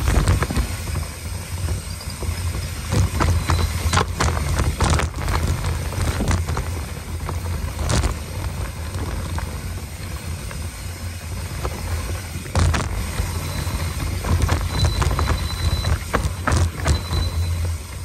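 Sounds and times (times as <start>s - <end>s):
bike clattering over bumps: 0.0s - 18.0s
tyres rumbling on dirt: 0.0s - 18.0s
wind over microphone: 0.0s - 18.0s.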